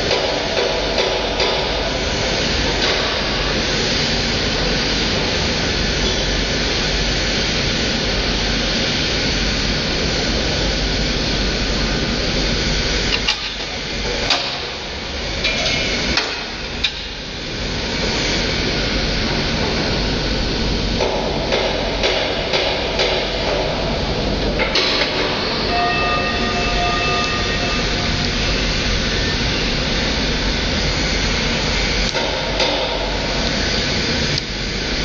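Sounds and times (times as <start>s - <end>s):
machinery rushing noise: 0.0s - 35.0s.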